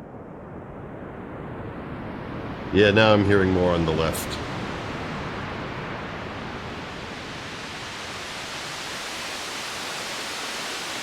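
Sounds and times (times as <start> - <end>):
synthesized ocean wave hiss: 0.0 - 11.0.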